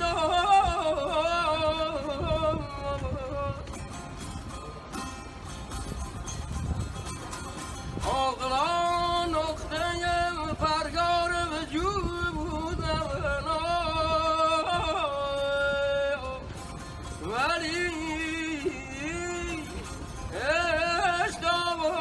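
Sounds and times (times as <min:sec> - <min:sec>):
plucked lute: 0:00.0 - 0:22.0.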